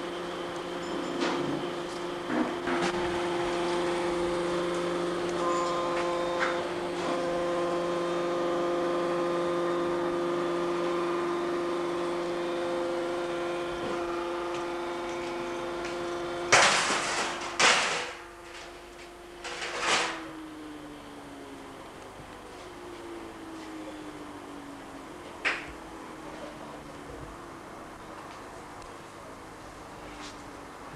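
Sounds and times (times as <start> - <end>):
machinery humming: 0.0 - 30.9.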